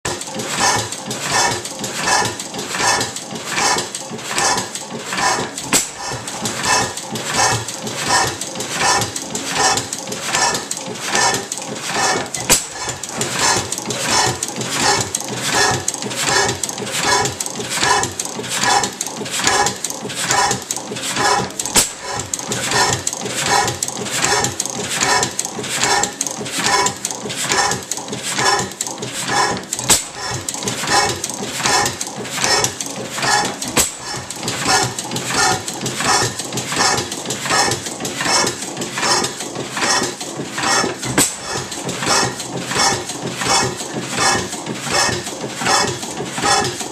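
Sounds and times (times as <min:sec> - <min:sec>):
gas engine clacking: 0:00.1 - 0:46.9.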